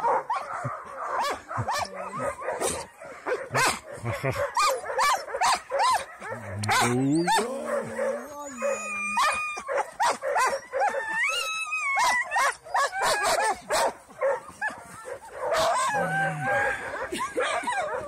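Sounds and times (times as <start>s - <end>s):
dogs barking and yipping: 0.0s - 18.0s
dogs howling: 0.0s - 18.0s.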